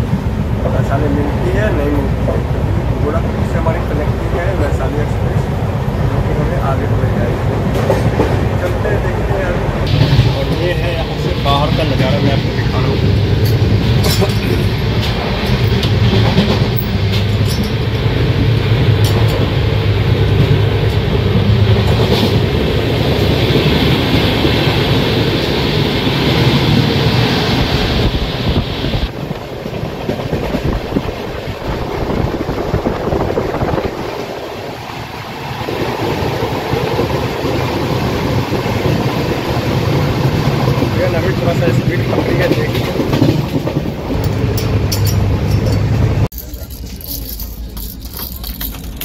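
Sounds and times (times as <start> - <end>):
train wheels on rail: 0.0 - 49.0.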